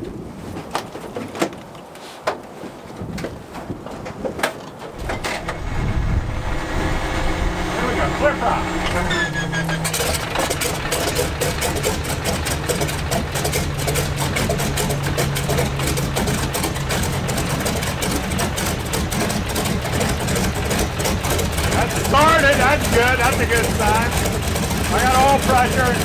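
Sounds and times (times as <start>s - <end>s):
radial aircraft engine running: 4.9s - 26.0s.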